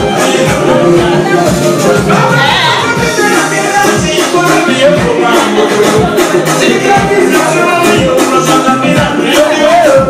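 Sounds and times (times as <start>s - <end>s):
loud dance music with singing: 0.0s - 10.0s.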